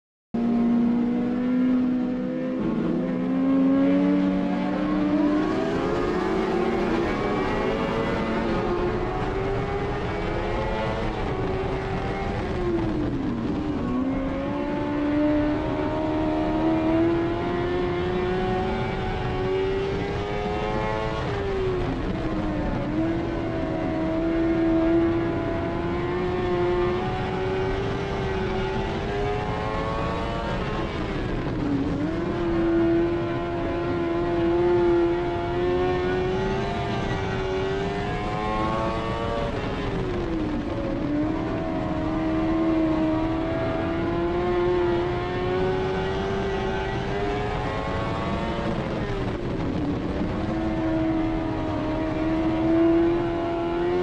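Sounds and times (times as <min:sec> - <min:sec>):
race car engine revving: 0:00.4 - 0:54.0.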